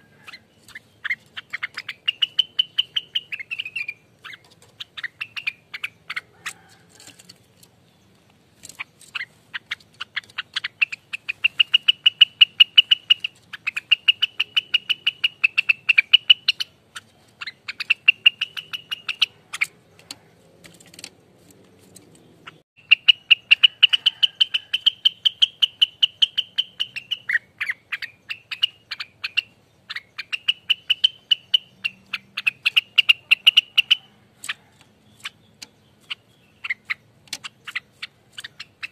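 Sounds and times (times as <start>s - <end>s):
leafbird singing chattering phrases: 0.0s - 38.9s.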